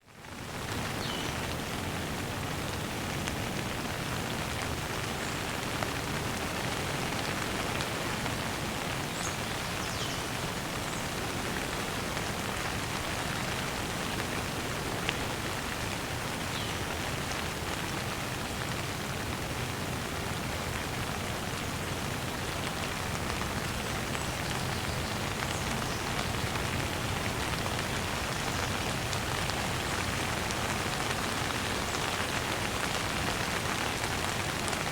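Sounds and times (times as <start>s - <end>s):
light rain falling: 0.0s - 34.9s.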